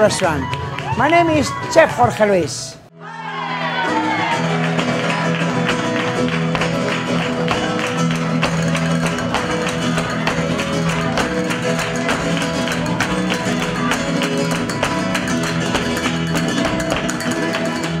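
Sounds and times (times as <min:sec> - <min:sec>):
flamenco guitar music: 0:03.0 - 0:18.0.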